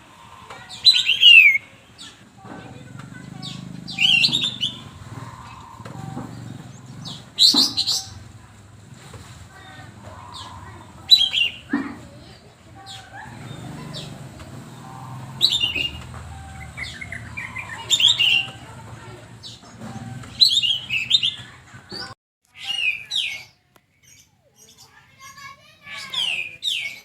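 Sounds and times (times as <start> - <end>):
songbird chirping and trilling: 0.0 - 8.8, 9.4 - 27.0.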